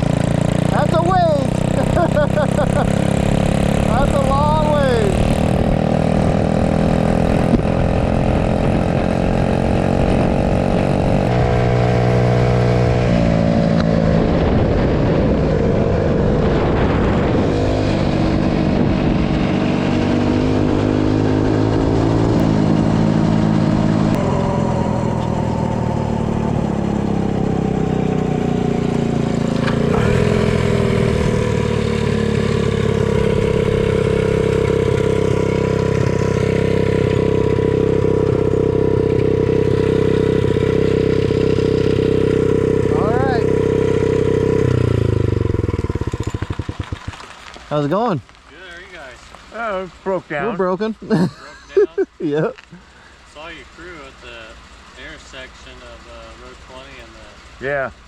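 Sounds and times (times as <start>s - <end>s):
mini bike engine revving: 0.0s - 57.9s.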